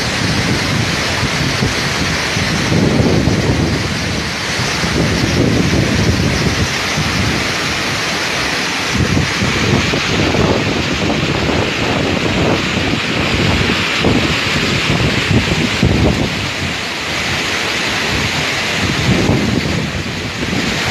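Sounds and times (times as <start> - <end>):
low rumbling: 0.0 - 20.9
waterfall rushing: 0.0 - 20.9.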